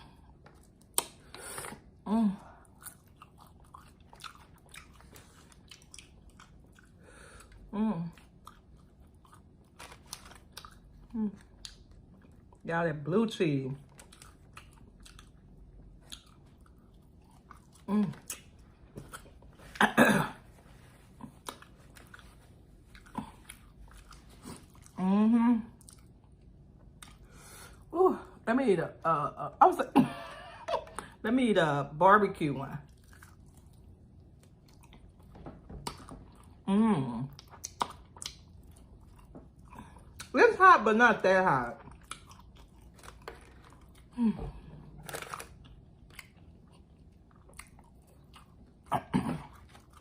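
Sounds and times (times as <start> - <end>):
person chewing crunchy food: 0.0 - 12.6, 13.8 - 25.0, 25.8 - 27.9, 32.9 - 36.6, 37.3 - 40.3, 41.8 - 50.0.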